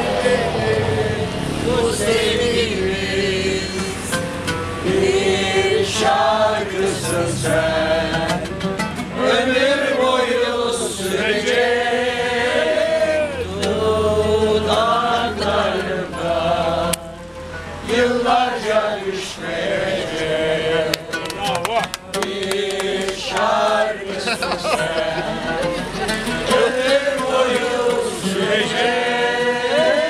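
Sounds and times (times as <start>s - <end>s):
group singing in unison: 0.0s - 30.0s.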